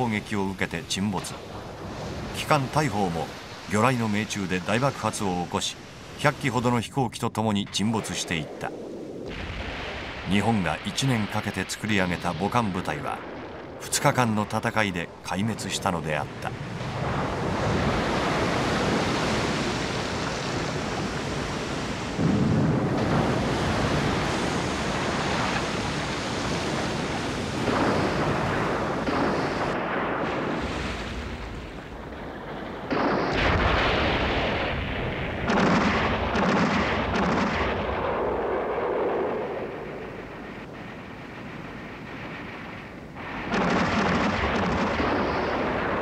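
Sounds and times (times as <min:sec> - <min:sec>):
rumble of explosions and gunfire: 0:00.0 - 0:46.0
heavy bomb blasts: 0:08.1 - 0:46.0.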